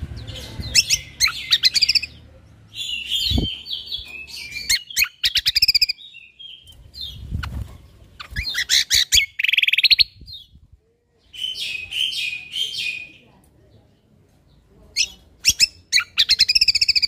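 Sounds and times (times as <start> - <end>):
songbird chirps and trills: 0.0 - 17.0.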